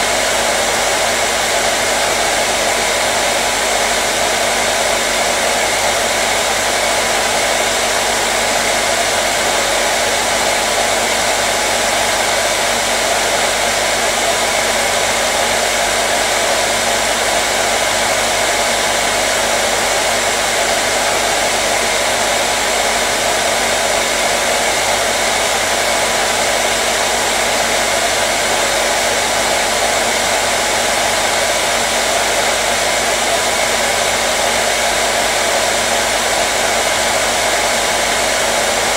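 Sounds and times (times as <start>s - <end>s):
hair dryer rush of air: 0.0s - 38.9s.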